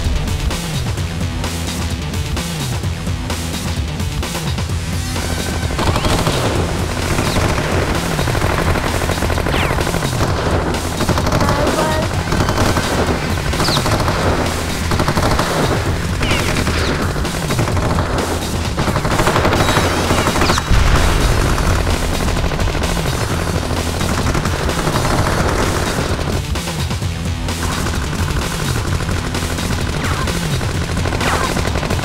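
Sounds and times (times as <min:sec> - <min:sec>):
heavy low rumble: 0:00.0 - 0:27.5
music: 0:00.0 - 0:32.0
rapid loud crackling: 0:00.0 - 0:32.0.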